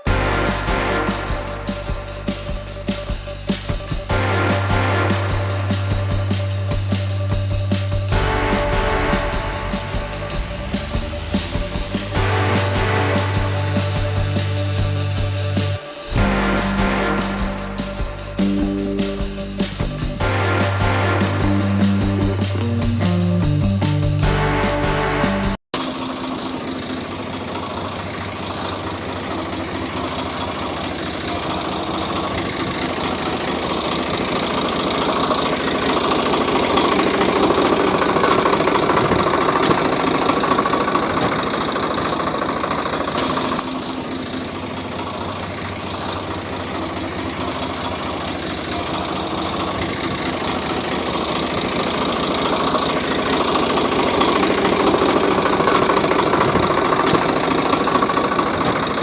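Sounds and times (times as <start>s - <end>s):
engine running with knocking beat: 0.0s - 59.0s.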